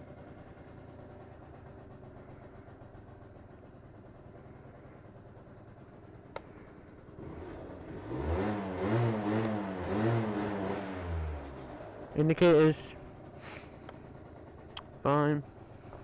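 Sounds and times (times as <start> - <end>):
scooter engine idling and revving: 0.0 - 16.0.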